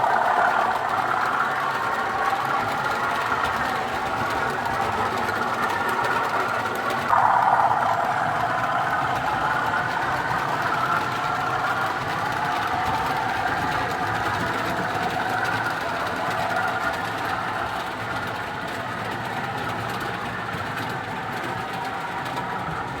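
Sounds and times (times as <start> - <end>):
wheels rattling on track: 0.0 - 23.0.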